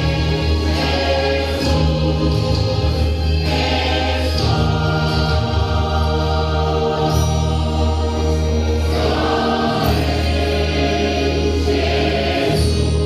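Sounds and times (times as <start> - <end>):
instrumental accompaniment: 0.0 - 13.0
women's choir singing: 0.0 - 13.0.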